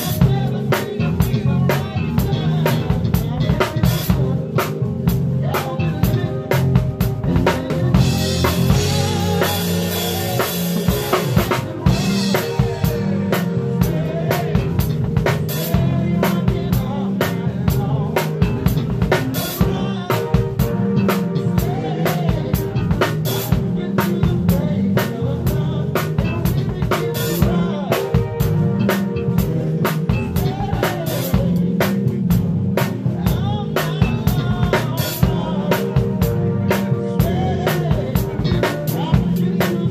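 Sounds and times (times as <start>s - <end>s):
live funk band playing: 0.0s - 39.9s.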